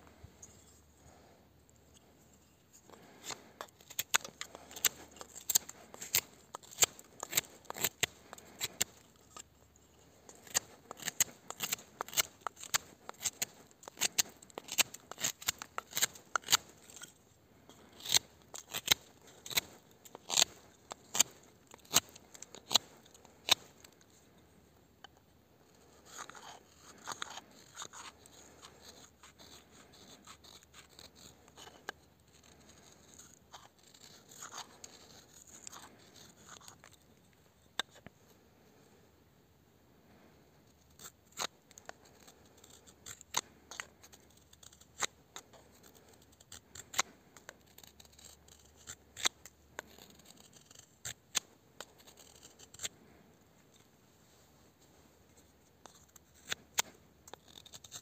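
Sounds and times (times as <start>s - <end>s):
knife scraping along stick: 0.1s - 24.3s, 25.1s - 38.1s, 40.6s - 58.0s
knife whittling dry wood: 0.1s - 24.3s, 25.1s - 38.1s, 40.2s - 58.0s.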